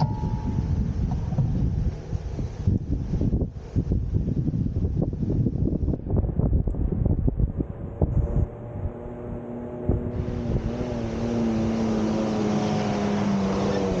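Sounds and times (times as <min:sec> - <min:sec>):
engine hum: 0:00.0 - 0:14.0
road noise: 0:00.0 - 0:14.0
wind buffeting microphone: 0:00.0 - 0:14.0.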